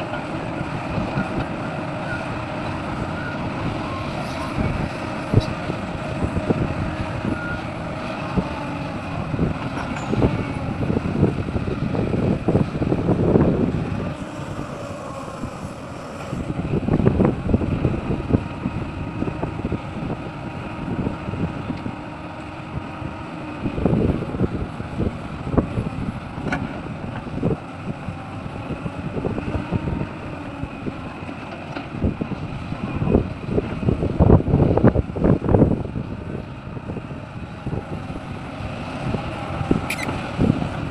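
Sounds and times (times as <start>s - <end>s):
excavator diesel engine running: 0.0s - 40.9s
wind buffeting microphone: 0.0s - 40.9s.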